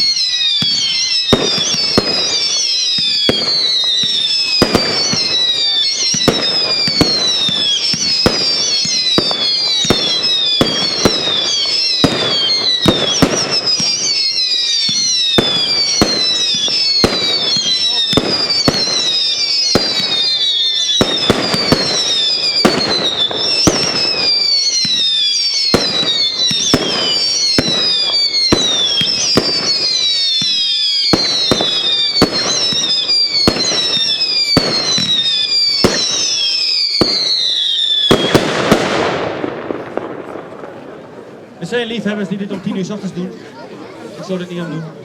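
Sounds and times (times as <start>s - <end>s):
falling firework whistles: 0.0s - 40.6s
firework salute bangs: 0.0s - 41.7s.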